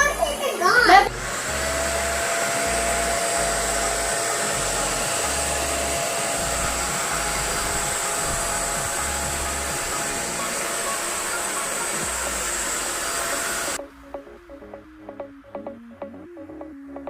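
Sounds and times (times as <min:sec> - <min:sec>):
vacuum cleaner running: 0:00.0 - 0:13.8.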